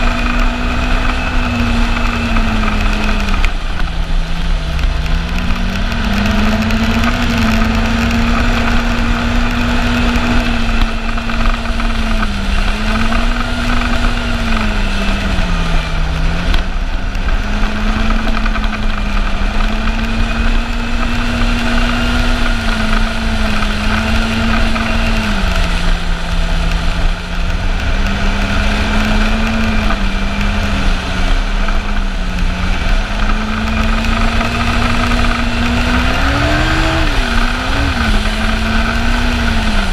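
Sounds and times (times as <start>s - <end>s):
snowmobile engine cruising: 0.0s - 39.9s
track and wind noise: 0.0s - 39.9s.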